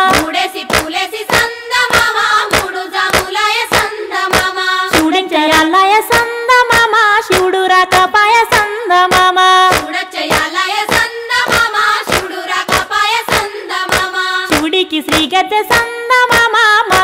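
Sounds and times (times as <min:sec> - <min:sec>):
hand-clapping: 0:00.0 - 0:17.0
women singing folk song: 0:00.0 - 0:17.0.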